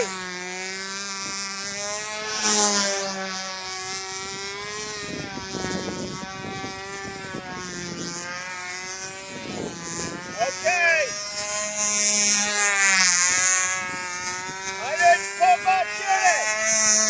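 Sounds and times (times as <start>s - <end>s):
model plane engine running: 0.0s - 17.0s.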